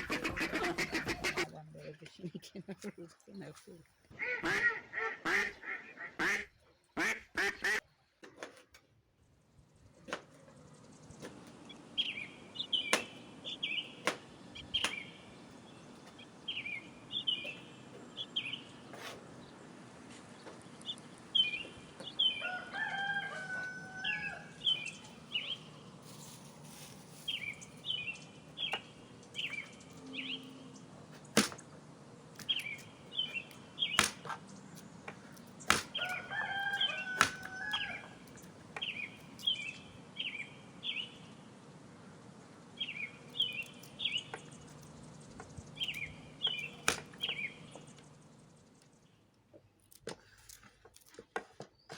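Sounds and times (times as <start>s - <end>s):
small birds chirping: 0.0s - 7.8s, 9.5s - 51.9s.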